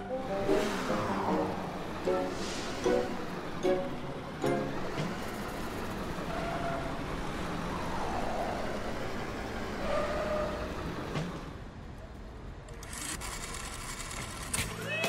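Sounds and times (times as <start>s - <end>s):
cartoon vehicle engine and road noise: 0.0s - 15.0s.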